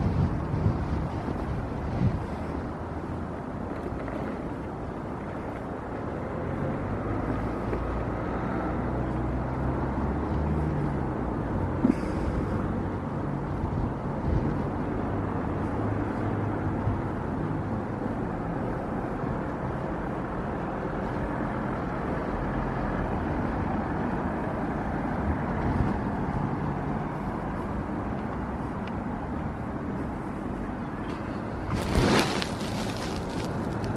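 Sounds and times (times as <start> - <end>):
low rumble of traffic: 0.0 - 33.9
road noise: 0.0 - 33.9.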